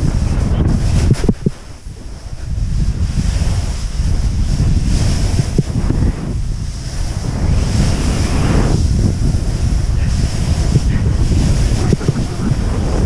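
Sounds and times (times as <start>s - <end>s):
snowboard carving through snow: 0.0s - 13.0s
wind buffeting microphone: 0.0s - 13.0s.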